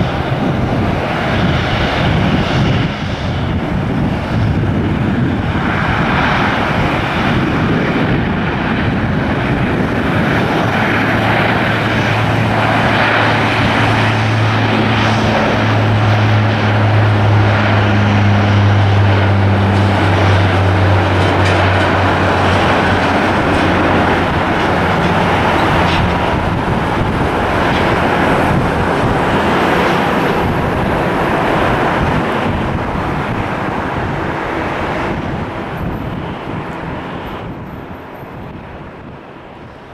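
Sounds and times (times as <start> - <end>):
jet engines rushing: 0.0 - 39.9
low drone: 0.0 - 39.9.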